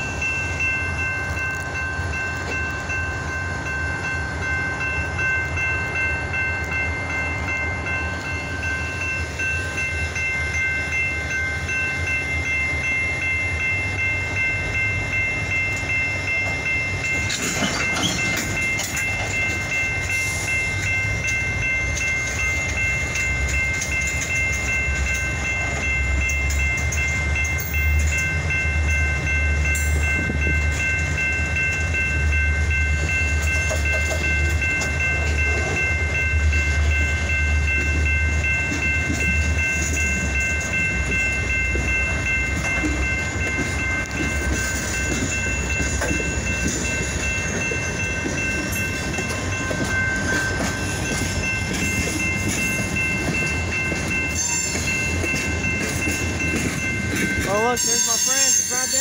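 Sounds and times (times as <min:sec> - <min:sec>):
high-pitched ringing tones: 0:00.0 - 0:59.0
train wheels rumbling and clattering: 0:00.0 - 0:59.0.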